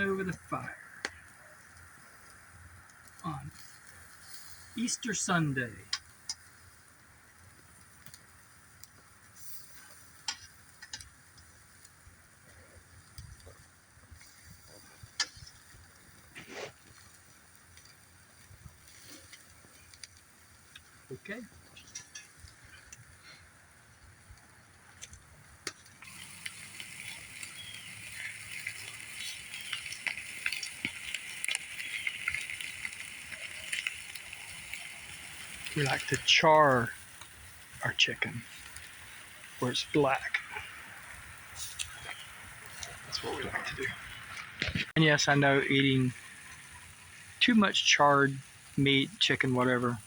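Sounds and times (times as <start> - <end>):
campfire crackling and popping: 0.0 - 50.0
faint hiss: 0.0 - 50.0.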